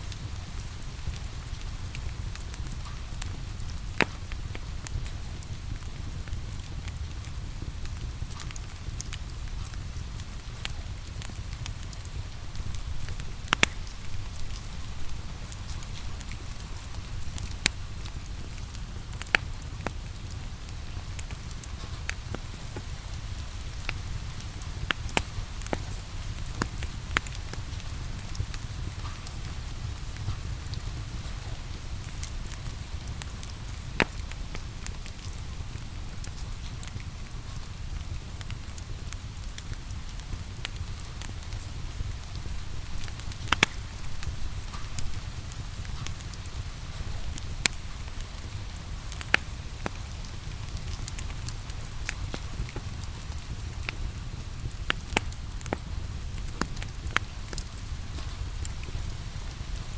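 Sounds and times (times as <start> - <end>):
rain falling: 0.0 - 59.9
wood fire crackling: 0.0 - 59.9
fire popping: 0.1 - 59.9.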